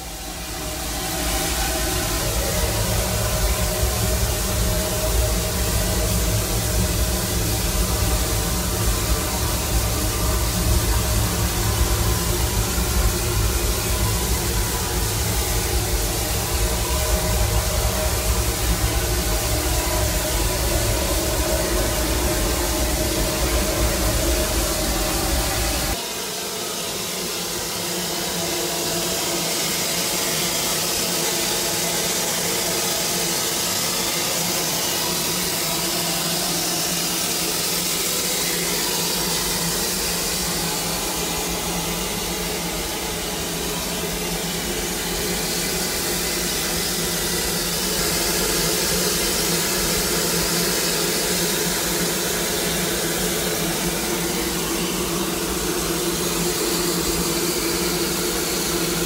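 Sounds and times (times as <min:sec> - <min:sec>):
mechanical hum: 0:00.0 - 0:59.0
steam hissing: 0:00.0 - 0:59.0.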